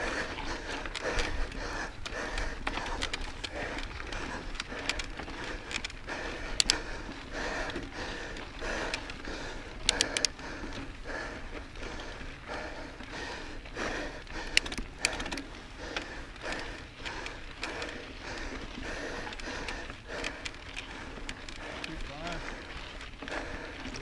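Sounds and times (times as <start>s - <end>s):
bike clicks: 0.0s - 24.0s
person breathing hard: 0.0s - 24.0s.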